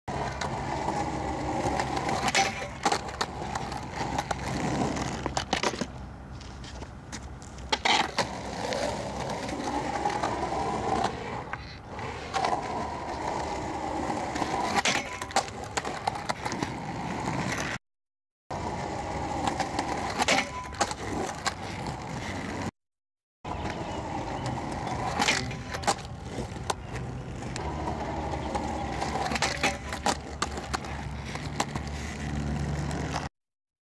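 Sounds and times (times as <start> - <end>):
skateboard clacks and scrapes: 0.1 - 17.8, 18.5 - 22.7, 23.5 - 33.3
skateboard wheels rolling on concrete: 0.1 - 17.8, 18.5 - 22.8, 23.5 - 33.3.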